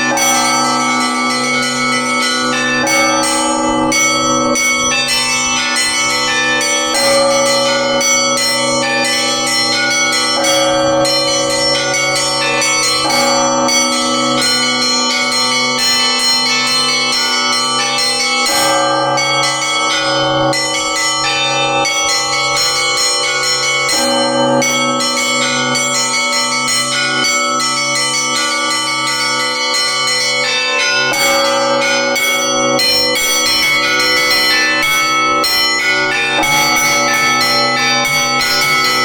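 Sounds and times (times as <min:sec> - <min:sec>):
deep bell struck steadily: 0:00.0 - 0:39.0
small treble bells pealing: 0:00.0 - 0:39.0.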